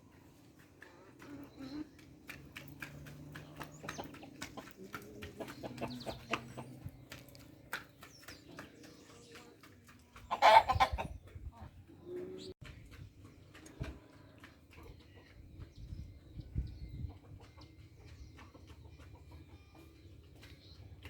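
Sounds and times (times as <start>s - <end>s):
chickens clucking: 0.1s - 21.0s.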